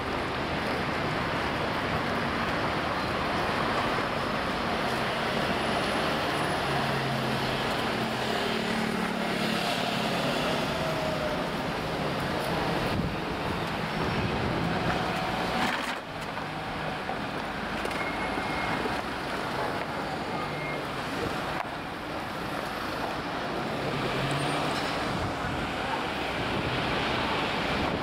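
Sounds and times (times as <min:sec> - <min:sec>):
cars passing: 0:00.0 - 0:28.0
city street traffic: 0:00.0 - 0:28.0.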